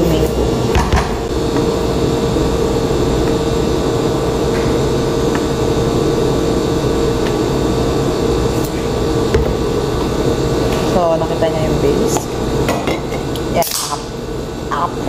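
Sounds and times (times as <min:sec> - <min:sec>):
machine whirring hum: 0:00.0 - 0:15.0.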